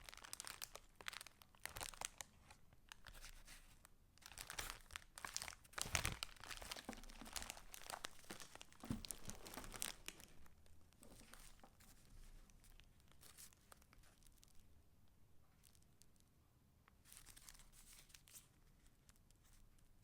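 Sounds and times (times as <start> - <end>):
paper rustling and crinkling: 0.0 - 14.6, 17.0 - 19.8.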